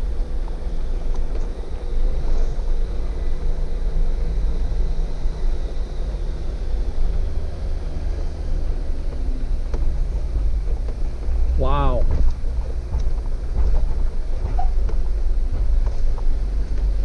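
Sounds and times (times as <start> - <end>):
engine rumbling at low speed: 0.0 - 17.0.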